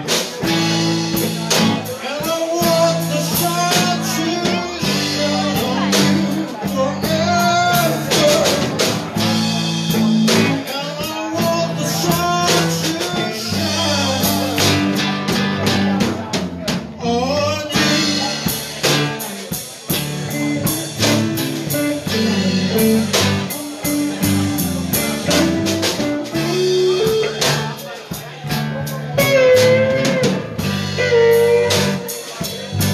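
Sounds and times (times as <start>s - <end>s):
drum kit: 0.0s - 32.9s
electric guitars: 0.0s - 32.9s.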